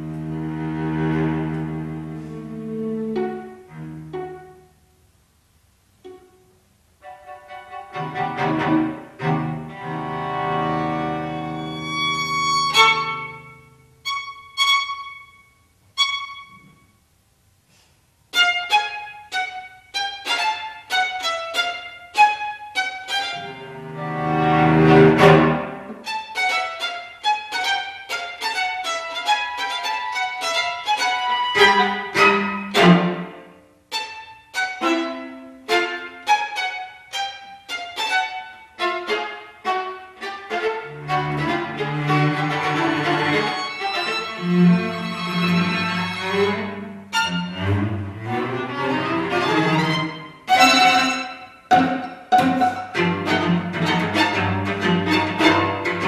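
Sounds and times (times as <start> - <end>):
string trio playing: 0.0 - 5.1, 5.9 - 16.7, 18.3 - 56.0.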